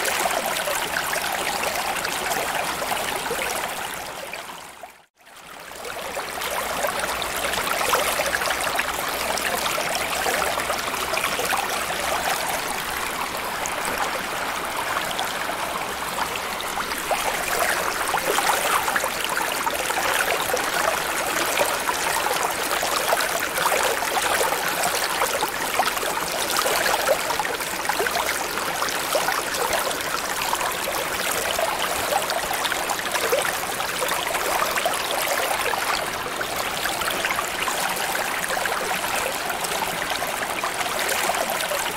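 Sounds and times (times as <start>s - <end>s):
trickling and bubbling water: 0.0s - 41.9s.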